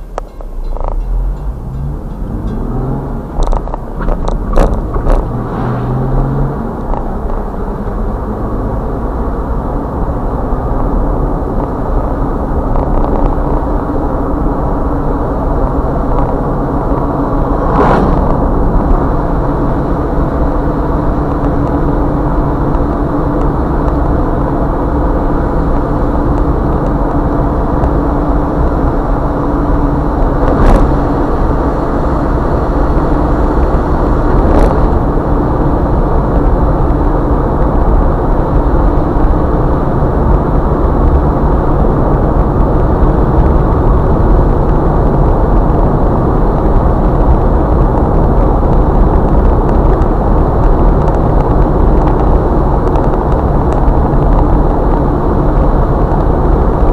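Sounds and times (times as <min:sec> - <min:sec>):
car driving on wet road: 0:00.0 - 0:56.9.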